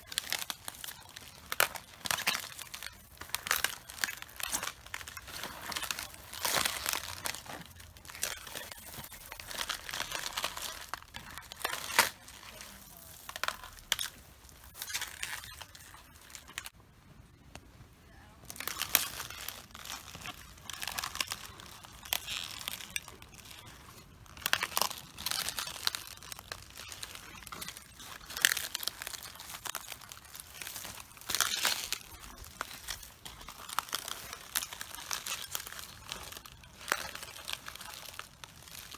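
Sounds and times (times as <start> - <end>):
cabbage leaves crunching underfoot: 0.0 - 16.7, 18.4 - 38.9.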